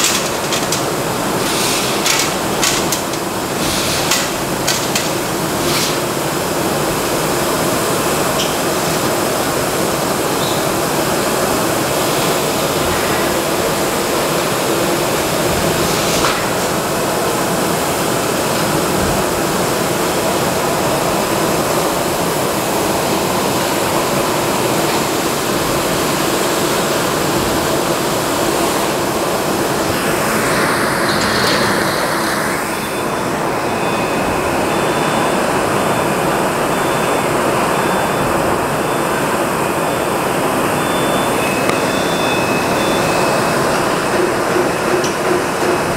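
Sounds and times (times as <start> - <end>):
machinery and air-handling noise: 0.0 - 45.9.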